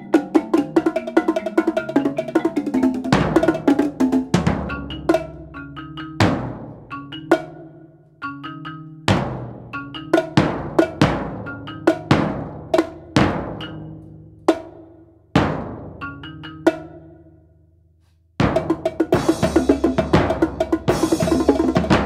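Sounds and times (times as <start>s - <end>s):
drum strokes: 0.0s - 7.6s, 9.1s - 16.9s, 18.4s - 22.0s
marimba notes: 0.0s - 14.7s, 15.6s - 17.3s, 18.6s - 22.0s.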